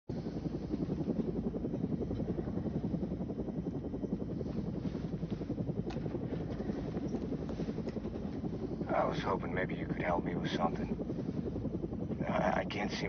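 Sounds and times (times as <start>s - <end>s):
helicopter engine and rotor: 0.1s - 13.0s.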